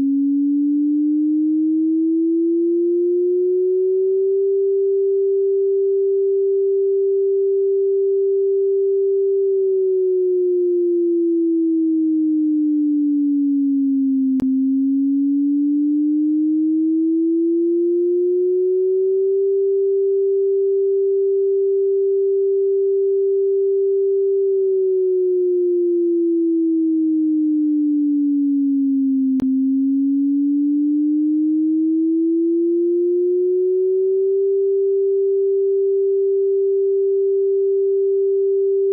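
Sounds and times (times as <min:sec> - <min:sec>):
sine tone warning siren: 0:00.0 - 0:38.9.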